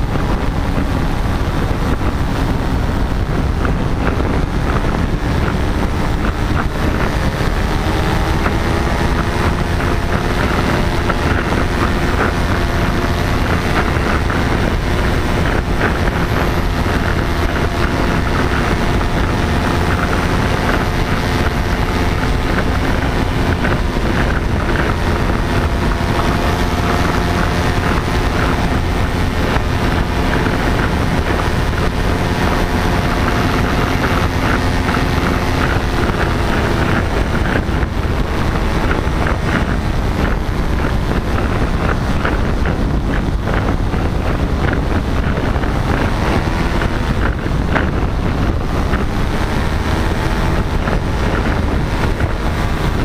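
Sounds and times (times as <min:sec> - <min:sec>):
paramotor engine and propeller: 0:00.0 - 0:53.0
wind buffeting microphone: 0:00.0 - 0:53.0.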